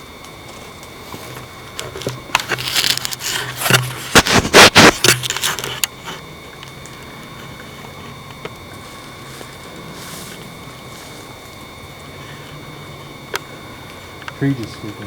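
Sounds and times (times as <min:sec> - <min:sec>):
footsteps crunching on frozen leaves: 0:00.4 - 0:12.5.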